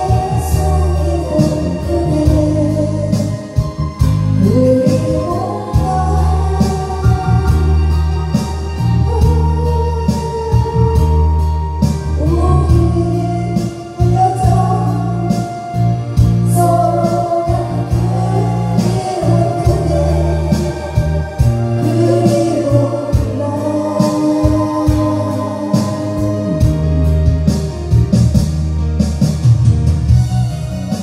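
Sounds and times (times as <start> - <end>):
woman singing a slow ballad: 0.0 - 27.9
karaoke backing track: 0.0 - 31.0.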